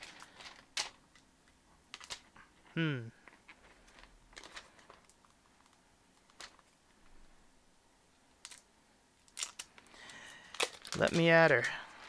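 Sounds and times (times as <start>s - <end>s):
hands tapping and rustling plastic film: 0.0s - 2.5s, 3.2s - 7.3s, 8.3s - 12.0s.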